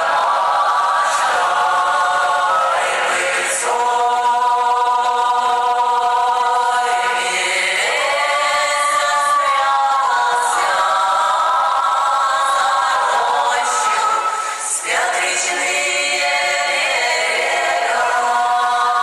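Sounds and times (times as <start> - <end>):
choir-like held chords: 0.0 - 19.0.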